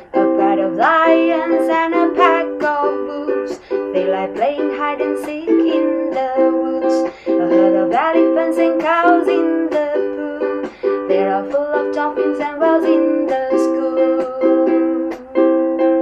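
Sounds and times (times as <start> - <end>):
ukulele strumming: 0.0 - 16.0.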